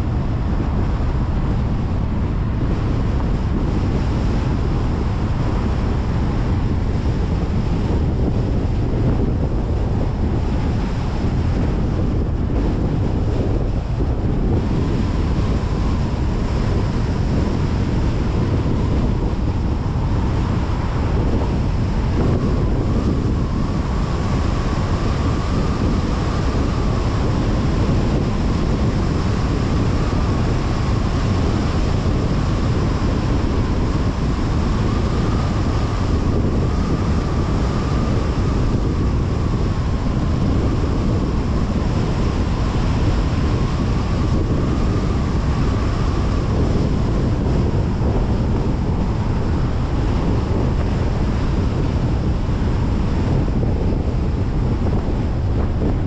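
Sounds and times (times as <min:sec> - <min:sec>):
deep low rumble: 0:00.0 - 0:56.0
tyre and wind noise: 0:00.0 - 0:56.0.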